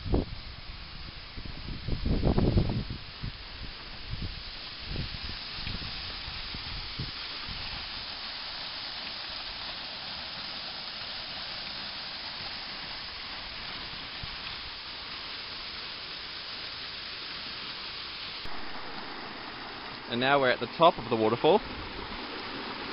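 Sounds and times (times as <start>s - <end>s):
waterfall rushing: 3.9s - 22.9s.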